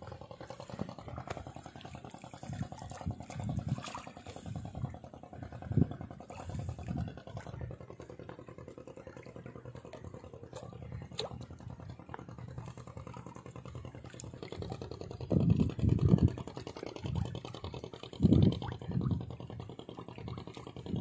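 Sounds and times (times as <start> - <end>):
engine humming: 0.0 - 21.0
low engine rumbles: 0.0 - 21.0.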